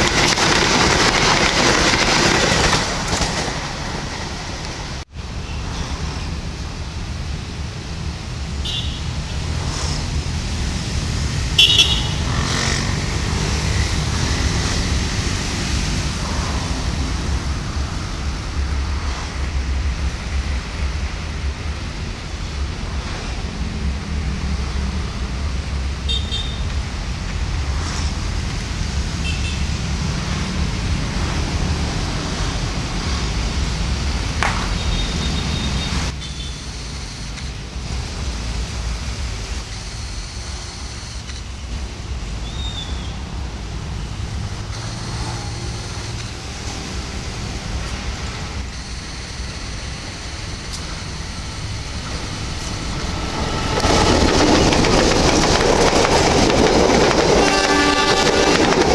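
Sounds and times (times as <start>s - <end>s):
locomotive engine droning: 0.0s - 58.9s.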